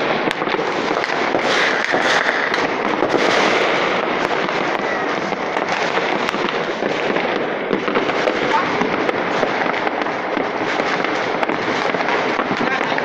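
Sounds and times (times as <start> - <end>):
firecrackers crackling: 0.0 - 13.0
sharp firework bangs: 0.0 - 13.0.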